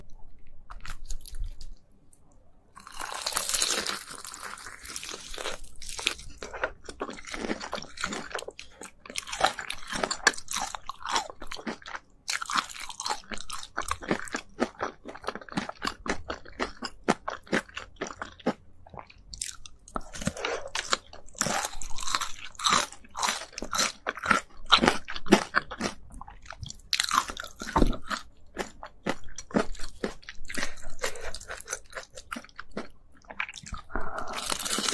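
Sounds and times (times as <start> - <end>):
crunchy chewing: 2.8 - 34.9.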